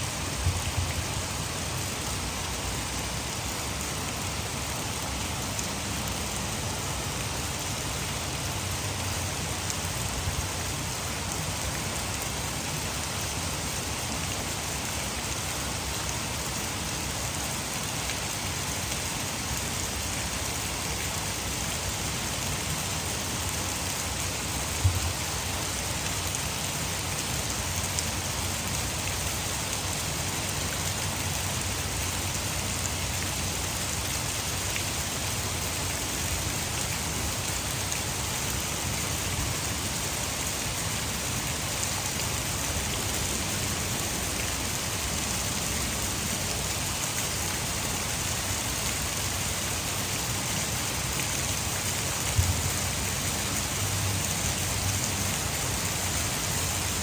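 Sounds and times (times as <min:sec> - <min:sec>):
heavy rain falling: 0:00.0 - 0:57.0
water rushing over dam: 0:00.0 - 0:57.0.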